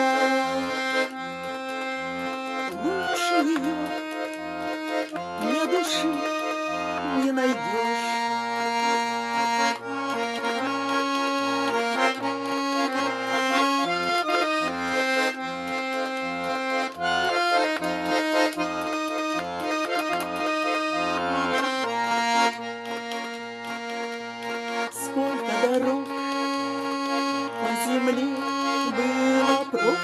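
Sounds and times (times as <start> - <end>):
button accordion playing: 0.0 - 30.0.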